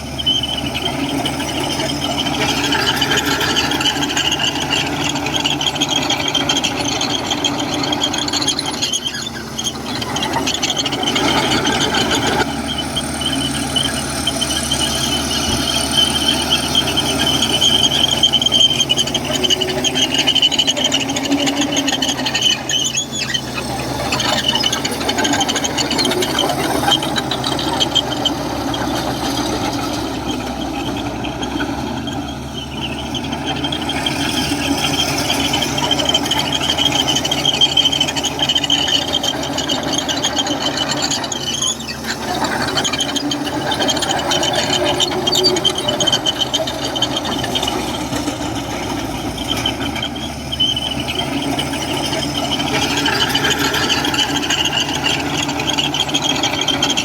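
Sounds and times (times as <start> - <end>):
diesel engine running: 0.0 - 57.0
steel tracks squealing and rattling: 0.0 - 57.0.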